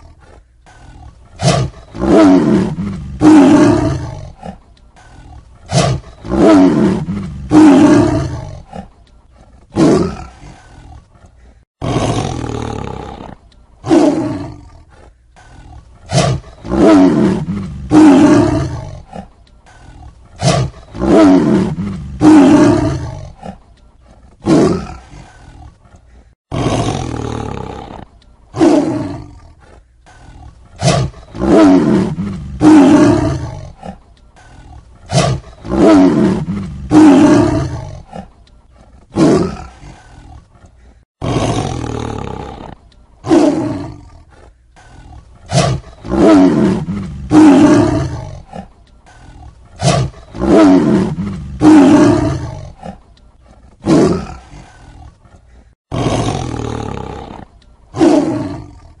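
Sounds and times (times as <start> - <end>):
tiger roaring: 0.0 - 59.0.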